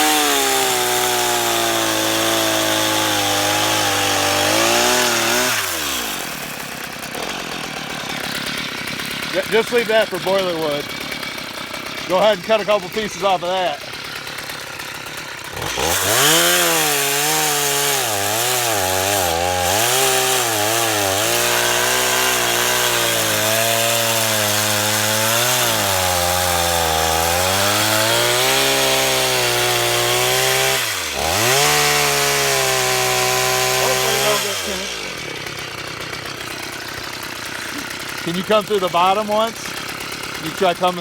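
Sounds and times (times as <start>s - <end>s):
chainsaw cutting a log: 0.0s - 41.0s.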